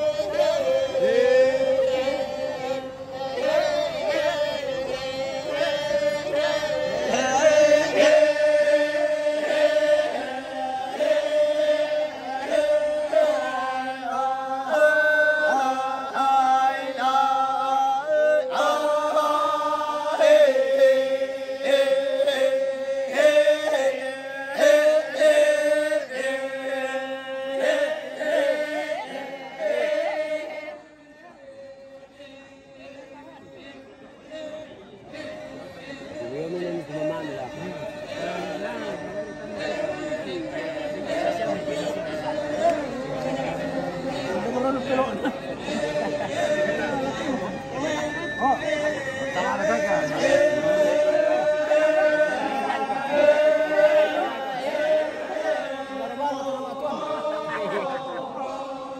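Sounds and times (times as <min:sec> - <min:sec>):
group of voices chanting: 0:00.0 - 0:31.4, 0:32.0 - 0:58.9.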